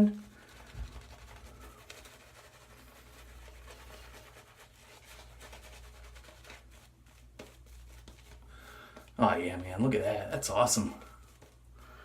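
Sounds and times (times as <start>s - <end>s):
shaving brush scratching lather: 0.1s - 11.6s.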